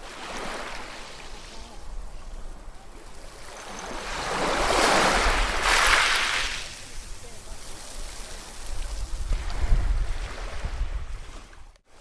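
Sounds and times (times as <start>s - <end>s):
ocean waves on a shore: 0.0s - 12.0s.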